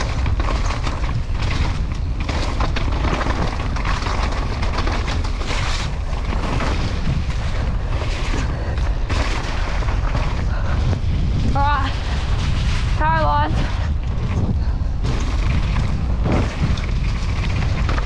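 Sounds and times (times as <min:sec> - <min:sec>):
bike tyre noise: 0:00.0 - 0:18.0
mountain bike rattling: 0:00.0 - 0:18.0
wind buffeting microphone: 0:00.0 - 0:18.0.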